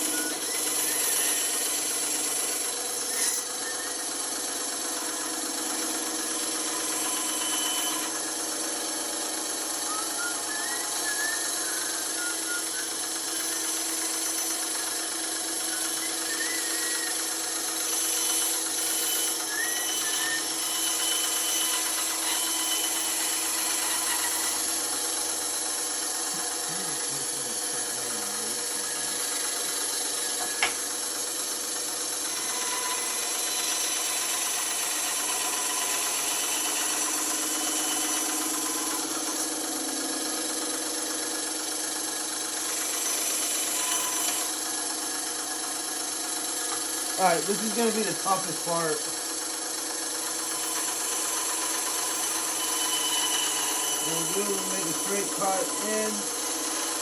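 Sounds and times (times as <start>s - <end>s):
bandsaw cutting wood: 0.0s - 57.0s.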